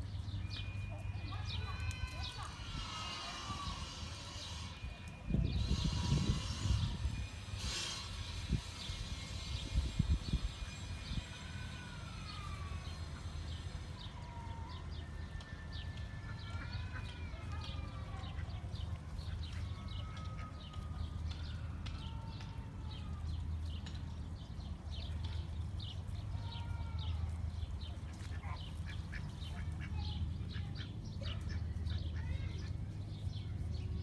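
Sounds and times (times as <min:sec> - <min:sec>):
chickens calling: 0:00.5 - 0:24.0, 0:27.2 - 0:32.9.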